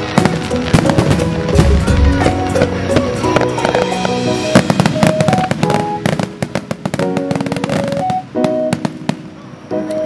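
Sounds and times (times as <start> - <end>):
fireworks bursting and crackling: 0.0 - 10.0
music playing: 0.0 - 10.0.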